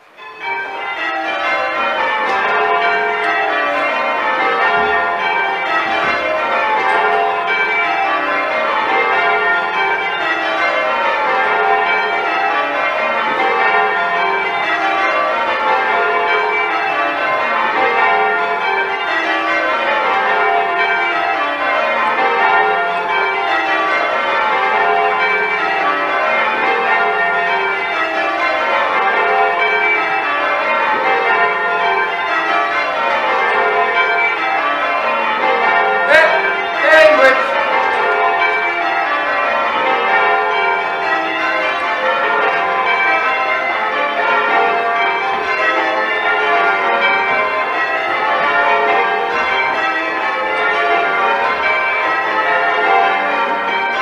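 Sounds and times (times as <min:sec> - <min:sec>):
church bells change ringing: 0:00.0 - 0:54.0.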